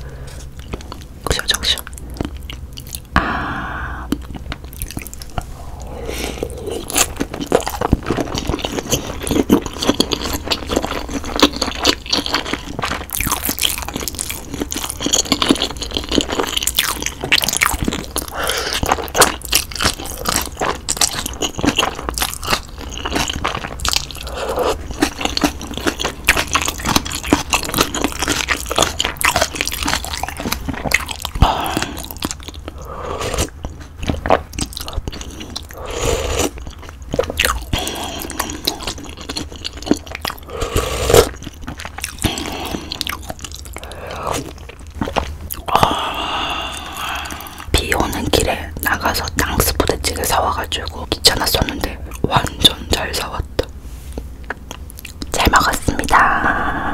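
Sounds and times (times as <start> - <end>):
close chewing and biting: 0.3 - 3.2, 4.1 - 56.3.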